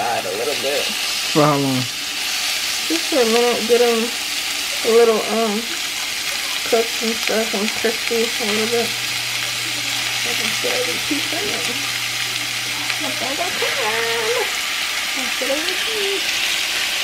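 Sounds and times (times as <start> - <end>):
beef sizzling in a skillet: 0.0 - 17.0.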